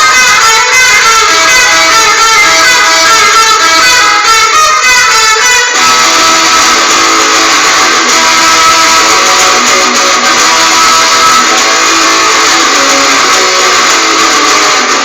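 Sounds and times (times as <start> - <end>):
guitar strummed: 0.0 - 15.0.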